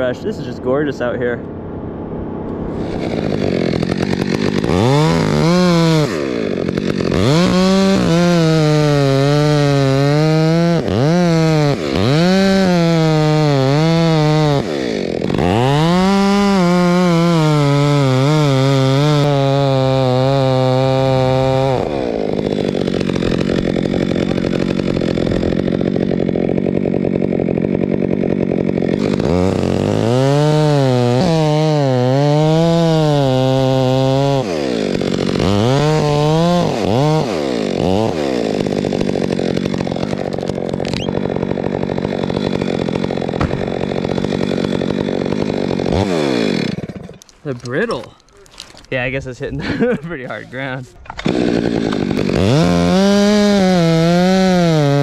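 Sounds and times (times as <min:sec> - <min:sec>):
chainsaw cutting wood: 0:02.5 - 0:55.0.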